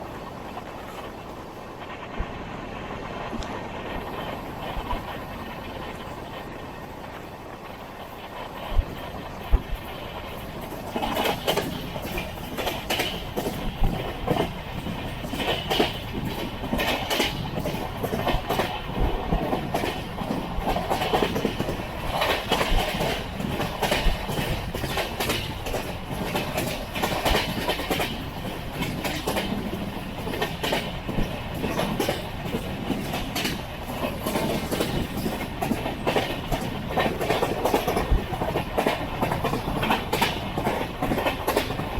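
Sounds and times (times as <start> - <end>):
train wheels clattering: 3.0 - 41.9.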